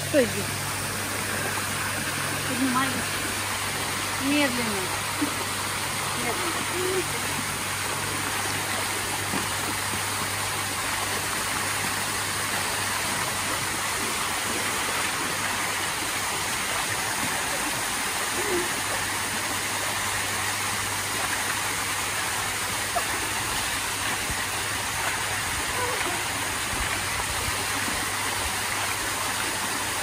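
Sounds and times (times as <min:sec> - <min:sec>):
low steady hum: 0:00.0 - 0:30.0
waterfall pouring into pool: 0:00.0 - 0:30.0.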